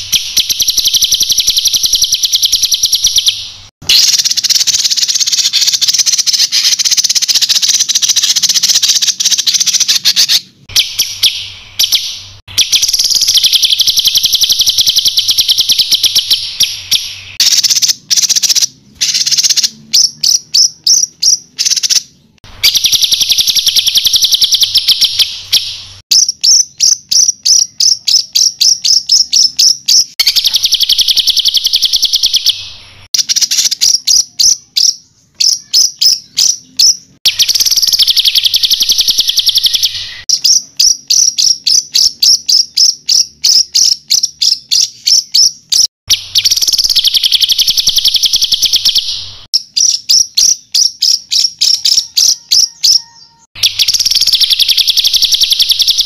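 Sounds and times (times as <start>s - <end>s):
buzzy rolling bird trills: 0.0s - 56.0s.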